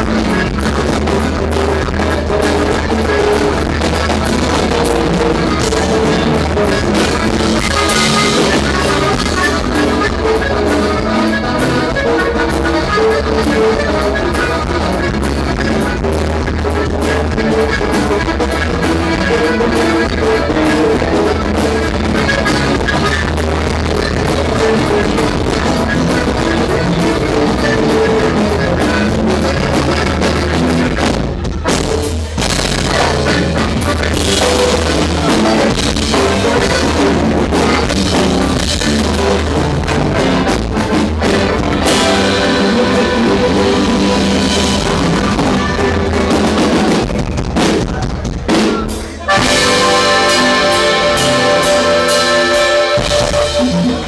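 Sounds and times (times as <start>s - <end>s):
accordion: 0.0s - 54.0s
drum kit: 0.0s - 54.0s
electric bass: 0.0s - 54.0s
guitar: 0.0s - 54.0s.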